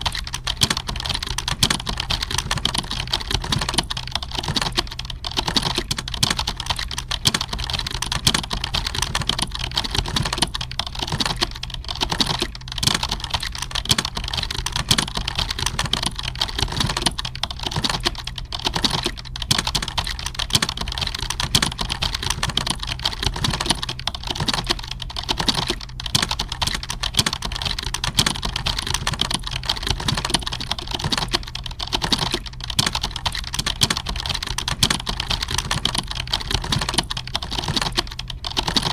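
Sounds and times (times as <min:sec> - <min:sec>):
keyboard typing: 0:00.0 - 0:38.9
steady low hum: 0:00.0 - 0:38.9.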